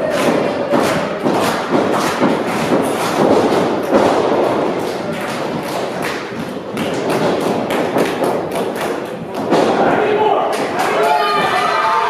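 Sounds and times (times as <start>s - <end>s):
sharp claps and thuds: 0.0s - 11.0s
crowd hubbub in a hall: 0.0s - 12.0s.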